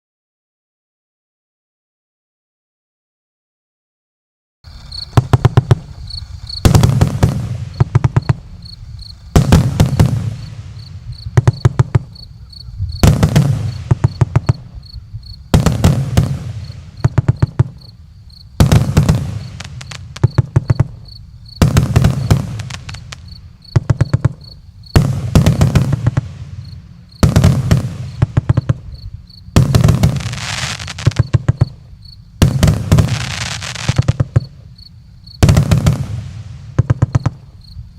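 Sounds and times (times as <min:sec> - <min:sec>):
fireworks bangs: 0:04.7 - 0:34.7, 0:35.4 - 0:37.6.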